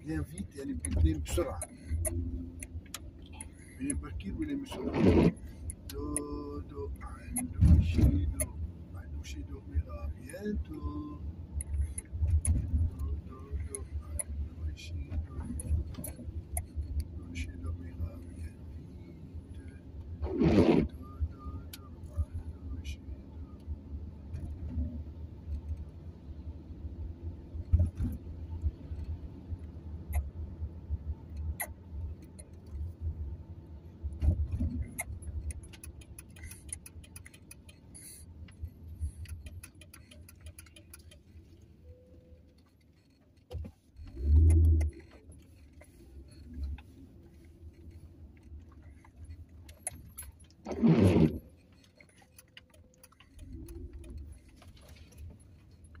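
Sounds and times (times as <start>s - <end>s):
light clicks and rattles: 0.0s - 20.2s, 23.6s - 56.0s
car engine and road rumble: 0.0s - 56.0s.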